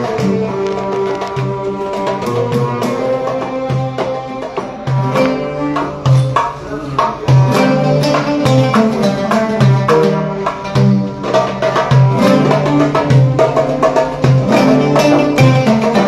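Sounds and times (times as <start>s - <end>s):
oud plucking a melody: 0.0s - 16.0s
violin: 0.0s - 16.0s.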